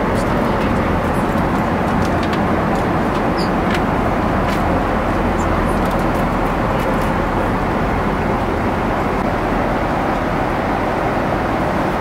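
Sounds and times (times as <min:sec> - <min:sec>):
airplane cabin noise: 0:00.0 - 0:12.0.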